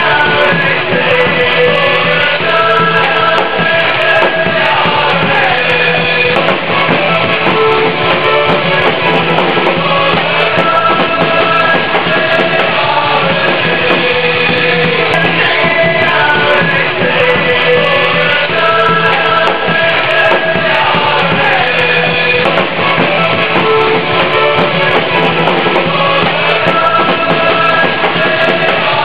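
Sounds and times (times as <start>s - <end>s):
loud music with singing: 0.0s - 29.0s.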